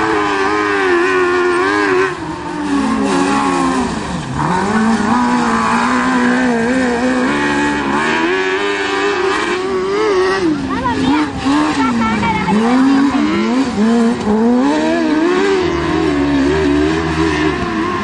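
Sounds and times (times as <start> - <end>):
three-wheeler engine revving: 0.0 - 18.0.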